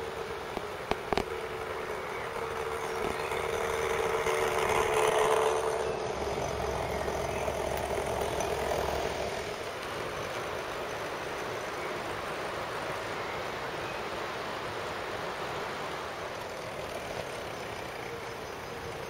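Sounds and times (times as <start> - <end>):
electric motor whine: 0.0 - 19.0
model train rolling on track: 0.0 - 19.0.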